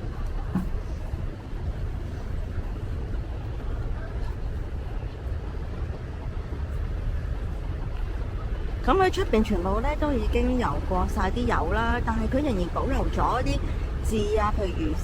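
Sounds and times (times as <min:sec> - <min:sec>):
street background rumble: 0:00.0 - 0:15.0.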